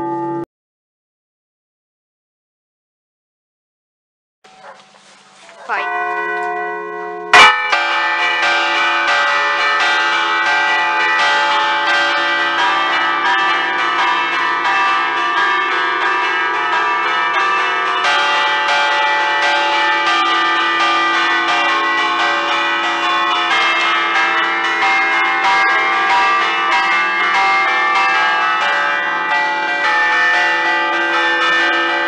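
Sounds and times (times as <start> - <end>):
church bells ringing: 0.0 - 0.5, 4.5 - 32.0.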